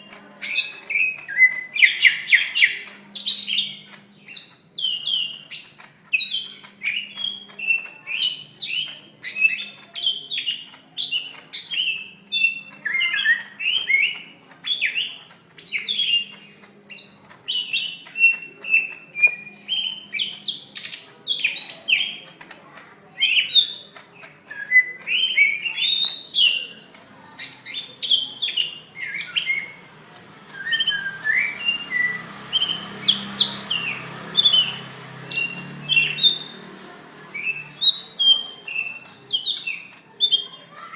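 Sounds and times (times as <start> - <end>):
bird singing rapid chirps: 0.0 - 22.5, 23.1 - 40.9.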